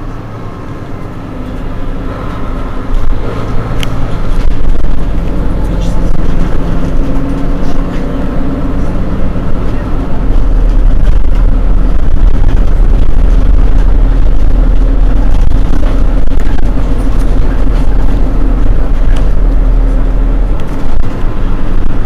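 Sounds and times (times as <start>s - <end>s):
bus engine idling: 0.0s - 22.0s.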